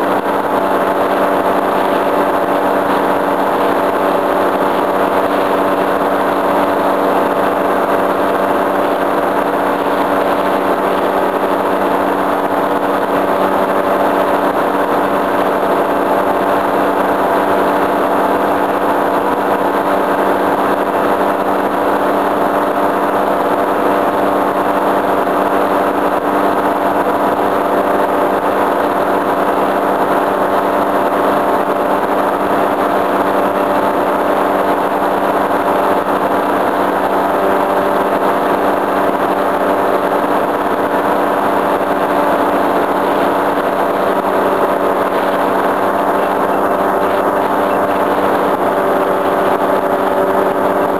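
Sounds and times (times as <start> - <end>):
paramotor engine drone: 0.0 - 50.9.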